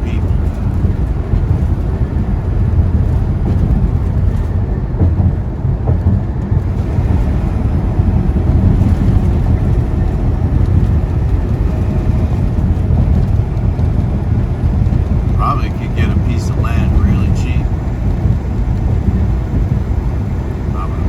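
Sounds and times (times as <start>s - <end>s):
diesel truck engine rumble: 0.0s - 21.0s
road noise inside cab: 0.0s - 21.0s.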